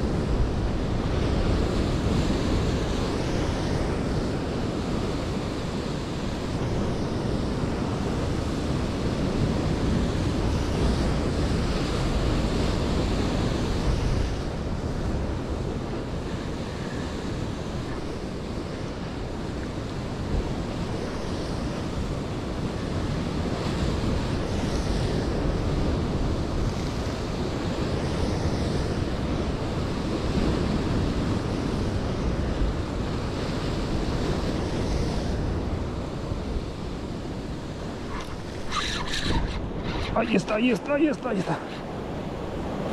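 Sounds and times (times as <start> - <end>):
ocean surf breaking on rocks: 0.0 - 42.9
wind on microphone: 0.0 - 42.9.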